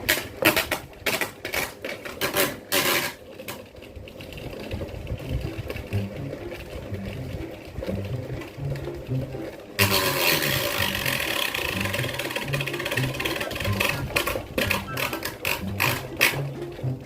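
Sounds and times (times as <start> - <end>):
ceiling fan motor hum: 0.0 - 17.0.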